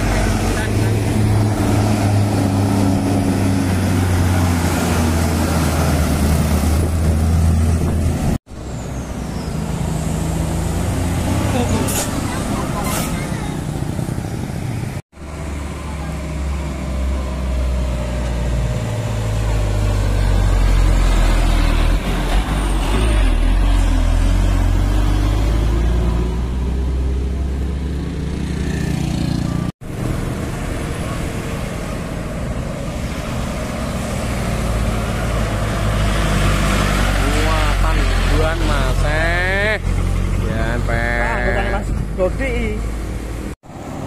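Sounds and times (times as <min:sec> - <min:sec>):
diesel truck engines labouring uphill: 0:00.0 - 0:44.0.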